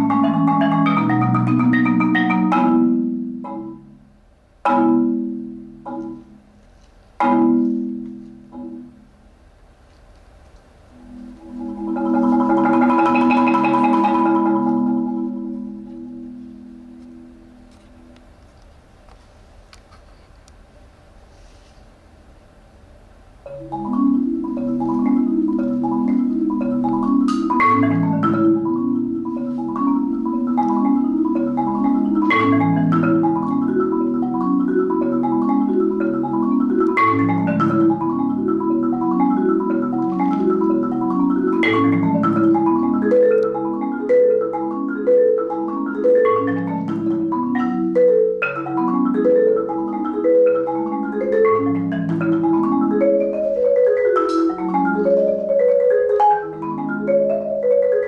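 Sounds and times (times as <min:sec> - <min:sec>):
marimba played with mallets: 0:00.0 - 0:06.6, 0:07.2 - 0:09.1, 0:10.9 - 0:18.2, 0:23.4 - 0:58.0.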